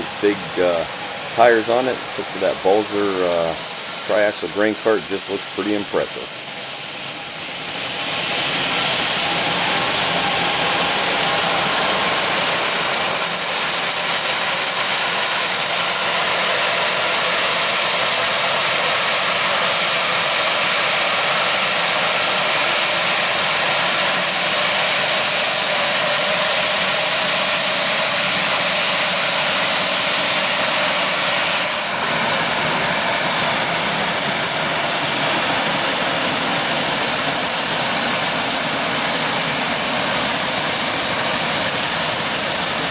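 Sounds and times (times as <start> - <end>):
diesel farm machinery engines: 0.0 - 42.9
machine noise hiss: 0.0 - 42.9.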